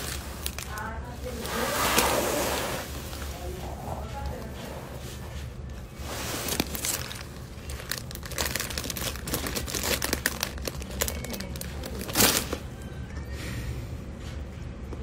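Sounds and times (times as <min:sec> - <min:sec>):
plastic bag crinkling: 0:00.0 - 0:05.1, 0:05.8 - 0:12.9.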